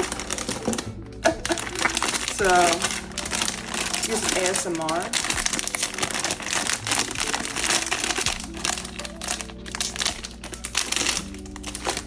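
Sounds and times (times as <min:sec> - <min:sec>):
packaging crinkling: 0:00.0 - 0:12.0
quiet background music: 0:00.0 - 0:12.0.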